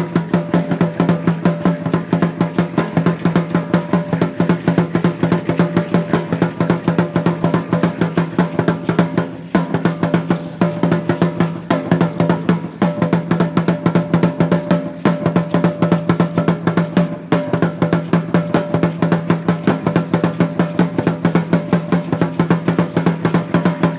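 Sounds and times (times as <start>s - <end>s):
large drum beating fast rhythm: 0.0s - 23.9s.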